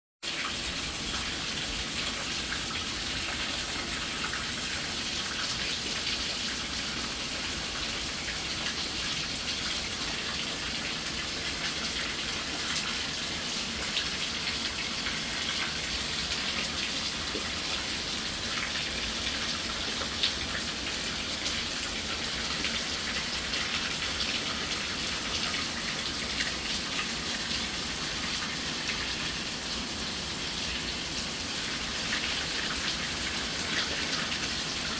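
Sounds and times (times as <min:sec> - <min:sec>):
steady rain pouring: 0:00.2 - 0:34.9.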